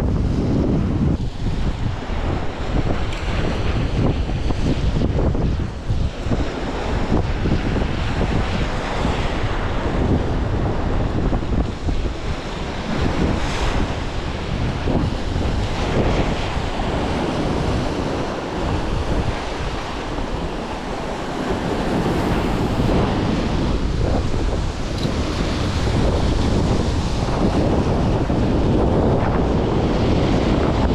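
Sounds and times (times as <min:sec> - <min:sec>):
wind buffeting microphone: 0:00.0 - 0:30.9
sea waves: 0:01.2 - 0:30.9.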